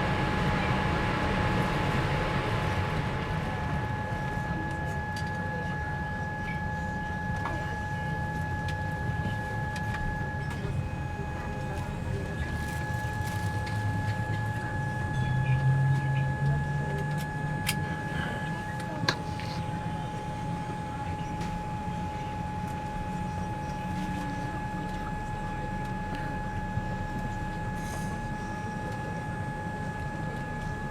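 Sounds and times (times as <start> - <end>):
low engine rumble: 0.0 - 30.9.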